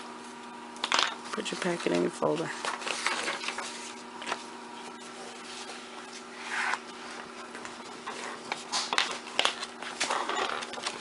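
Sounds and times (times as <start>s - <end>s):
steady low hum: 0.0s - 11.0s
paper rustling: 1.4s - 11.0s.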